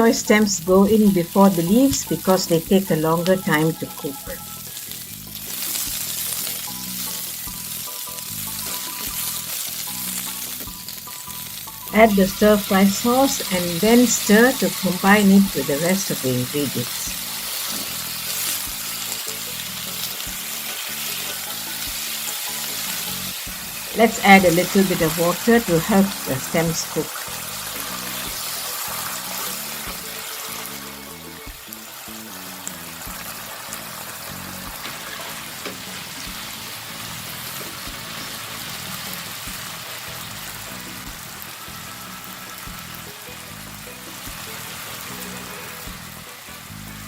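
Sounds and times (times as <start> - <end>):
soft background music: 0.0 - 47.0
vegetables sizzling in hot oil: 0.0 - 47.0.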